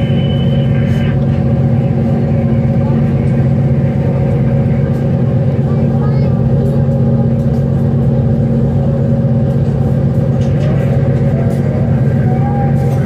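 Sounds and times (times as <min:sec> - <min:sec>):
ferry diesel engines droning: 0:00.0 - 0:13.0.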